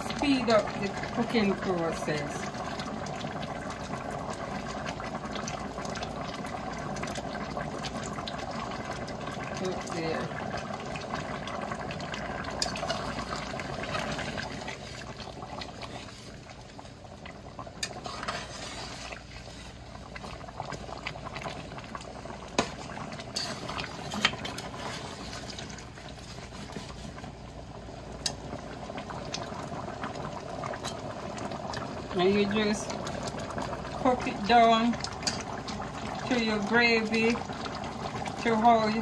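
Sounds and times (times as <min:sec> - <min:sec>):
stew bubbling in pot: 0:00.0 - 0:39.0.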